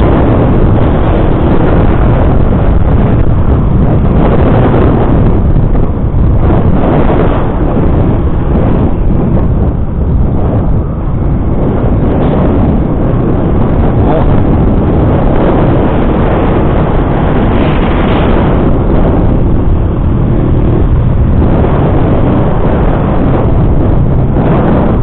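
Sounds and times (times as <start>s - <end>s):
motorcycle road noise: 0.0s - 25.0s
wind rush on microphone: 0.0s - 25.0s.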